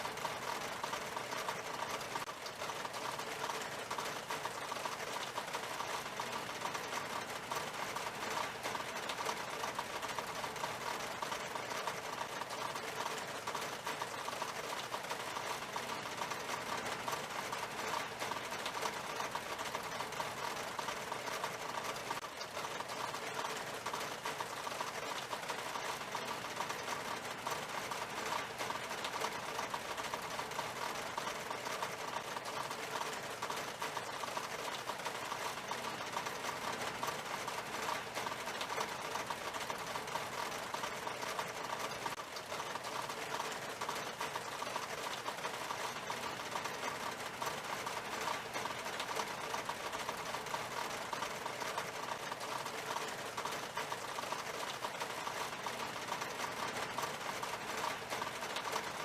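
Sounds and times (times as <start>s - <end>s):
rain on window glass: 0.0s - 59.0s.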